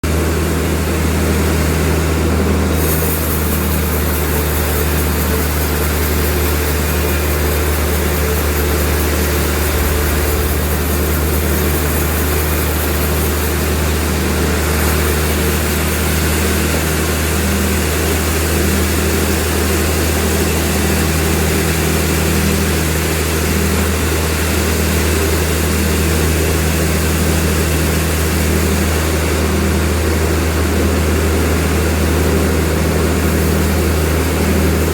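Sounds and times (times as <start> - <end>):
sawmill machinery engine drone: 0.0 - 34.9.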